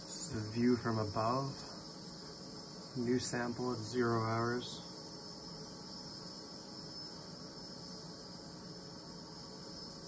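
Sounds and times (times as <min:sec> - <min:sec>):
faint hiss: 0:00.0 - 0:10.0
high-pitched whine: 0:00.0 - 0:10.0.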